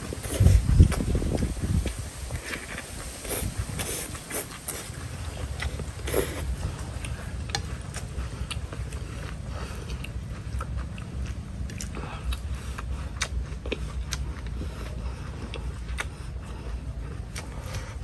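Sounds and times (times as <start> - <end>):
low background rumble: 0.0 - 18.0
person chewing noodles: 0.0 - 18.0.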